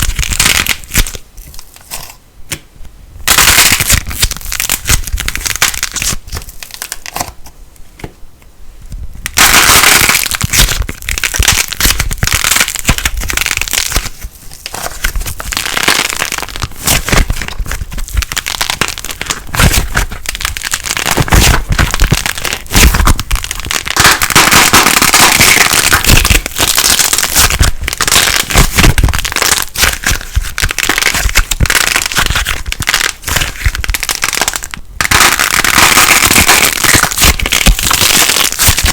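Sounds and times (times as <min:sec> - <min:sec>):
plasticine crackling and popping: 0:00.0 - 0:02.7, 0:03.3 - 0:08.1, 0:08.9 - 0:38.9.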